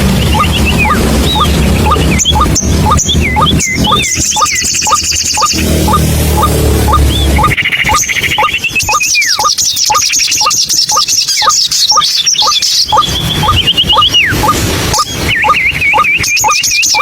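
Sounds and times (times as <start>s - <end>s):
high chirping trills: 0.0s - 17.0s
waterhen calling rising notes: 0.3s - 17.0s.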